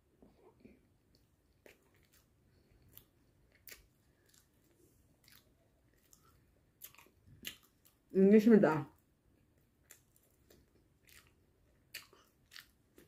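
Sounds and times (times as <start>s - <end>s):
chewing soft bread: 0.0s - 8.2s, 8.9s - 13.0s.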